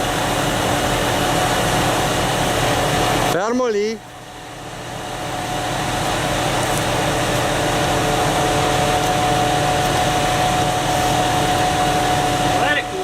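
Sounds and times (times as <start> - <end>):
wood chipper whining: 0.0 - 13.0.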